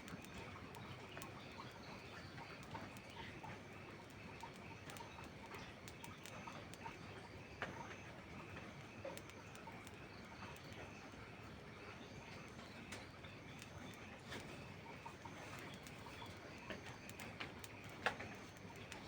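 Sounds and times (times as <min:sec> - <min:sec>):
faint rain: 0:00.0 - 0:19.0
wood fire crackling: 0:00.0 - 0:19.0.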